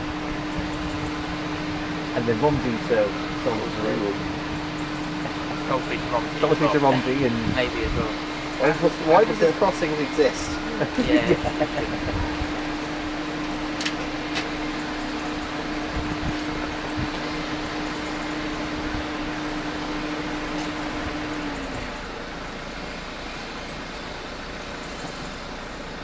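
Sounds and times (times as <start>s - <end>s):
road traffic noise: 0.0s - 26.0s
steady mechanical hum: 0.0s - 26.0s.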